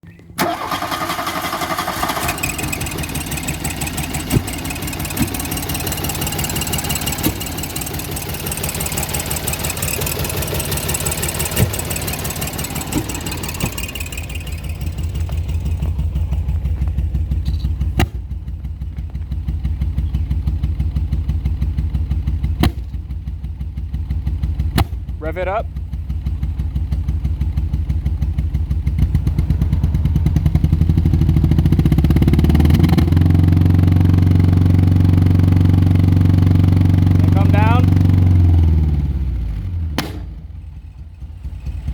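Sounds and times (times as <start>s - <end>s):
car engine idling: 0.1s - 41.9s
engine popping: 0.3s - 41.9s.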